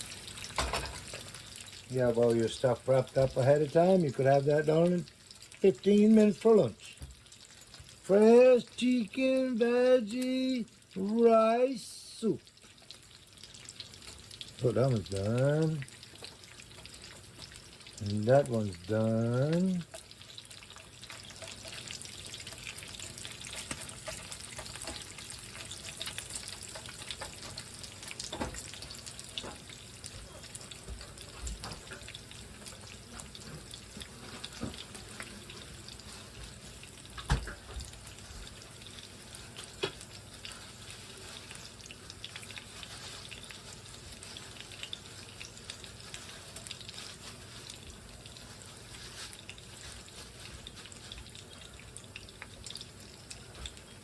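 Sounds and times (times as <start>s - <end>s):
food sizzling and bubbling: 0.0s - 54.0s.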